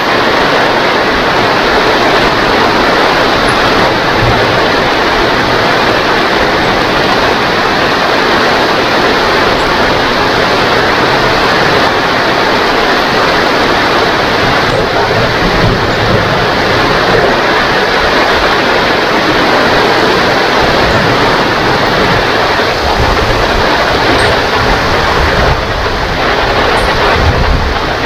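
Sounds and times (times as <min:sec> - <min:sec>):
rain pouring: 0:00.0 - 0:28.0.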